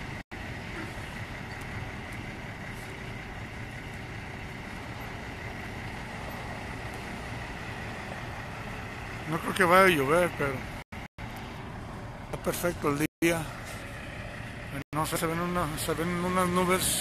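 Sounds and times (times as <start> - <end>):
diesel truck engines idling: 0.0 - 17.0.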